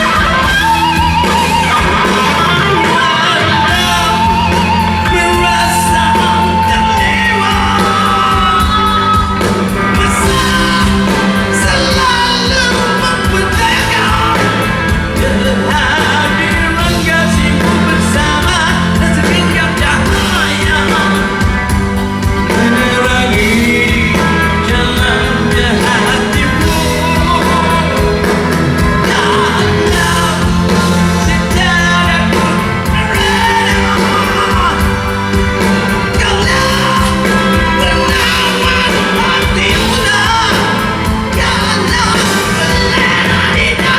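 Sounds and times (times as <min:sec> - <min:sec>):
live rock band playing: 0:00.0 - 0:43.9
person singing: 0:00.0 - 0:43.9.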